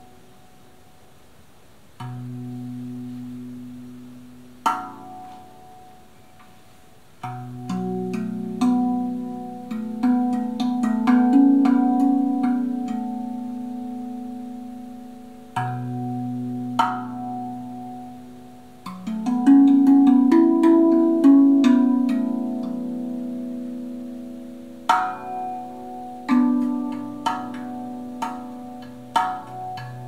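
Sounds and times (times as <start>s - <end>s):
steel tongue drum notes: 2.0s - 30.0s.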